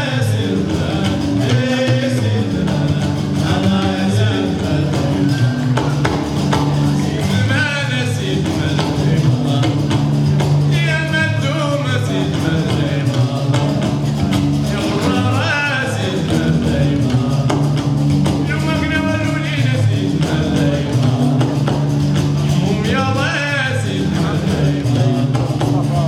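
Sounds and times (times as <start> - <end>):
plucked bass line: 0.0 - 26.0.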